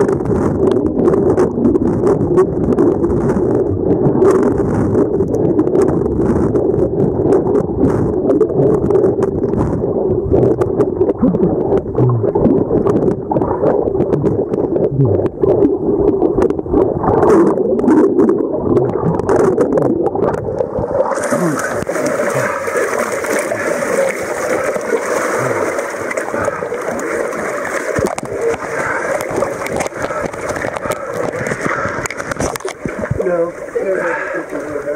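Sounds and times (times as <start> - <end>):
muffled underwater gurgling: 0.0 - 34.9
water splashing: 0.0 - 34.9.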